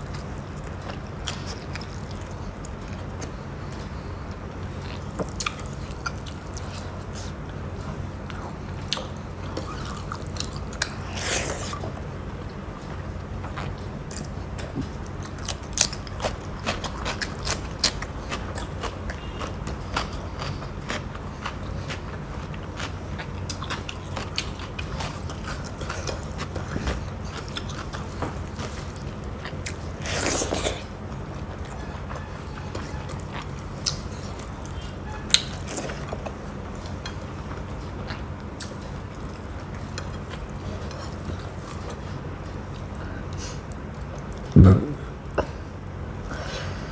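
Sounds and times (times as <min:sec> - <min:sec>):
person chewing food: 0:00.0 - 0:45.6
steady low hum: 0:00.0 - 0:46.9.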